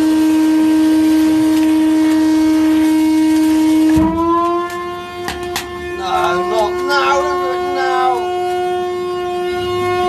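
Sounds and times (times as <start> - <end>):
vacuum cleaner motor droning: 0.0 - 10.0.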